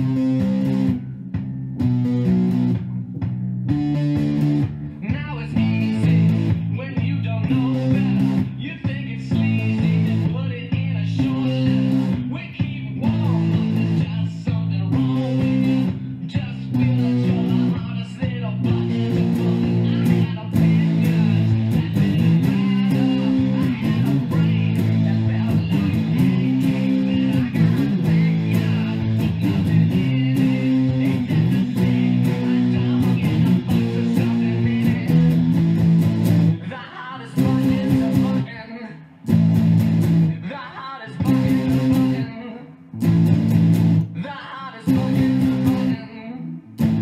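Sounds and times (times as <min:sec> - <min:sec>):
electric guitar chords: 0:00.0 - 0:47.0.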